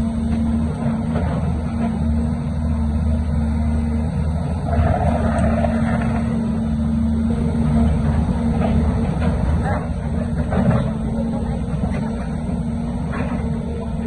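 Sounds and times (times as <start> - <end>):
construction machine diesel engine: 0.0 - 14.0.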